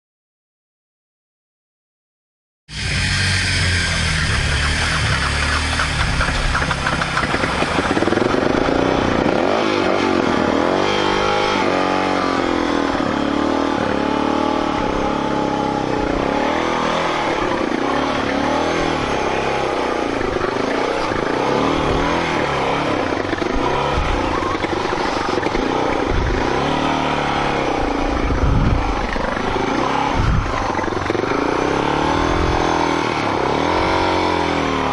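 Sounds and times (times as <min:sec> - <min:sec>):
motorcycle engine revving: 0:02.7 - 0:34.9.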